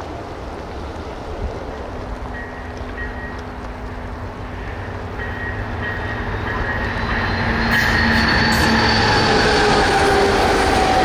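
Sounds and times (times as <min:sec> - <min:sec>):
outdoor rushing noise: 0:00.0 - 0:11.0.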